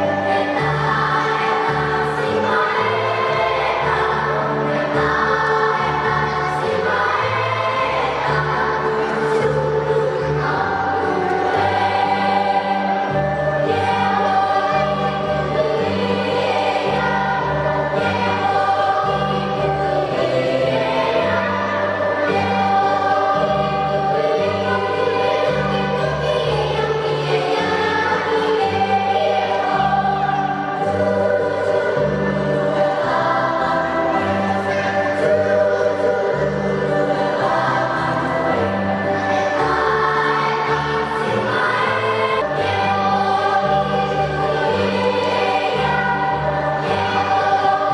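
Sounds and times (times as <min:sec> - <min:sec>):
children's choir singing: 0:00.0 - 0:47.9.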